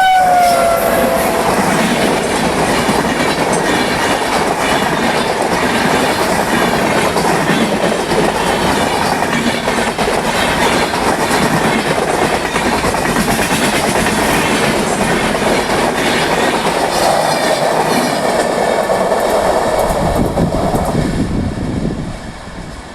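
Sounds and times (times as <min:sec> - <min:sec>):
train wheels clattering: 0:00.0 - 0:21.2.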